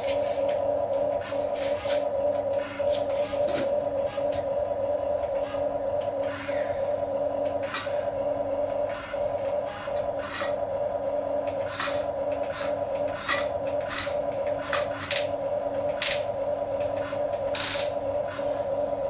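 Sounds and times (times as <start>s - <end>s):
small electric motors whining: 0.2s - 4.5s, 5.2s - 10.7s, 11.4s - 18.6s.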